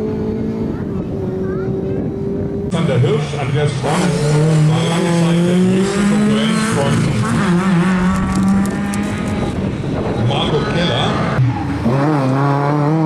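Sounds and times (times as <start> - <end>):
rally car engine running hard: 0.0 - 13.0.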